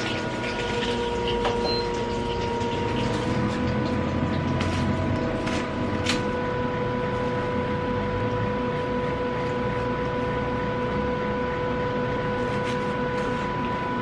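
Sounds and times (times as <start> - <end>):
machine hum with pitched tone: 0.0 - 14.0.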